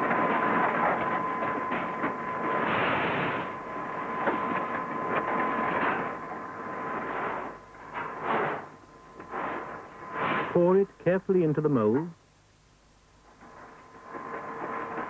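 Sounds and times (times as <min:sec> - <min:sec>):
steady high whine: 0:00.0 - 0:15.0.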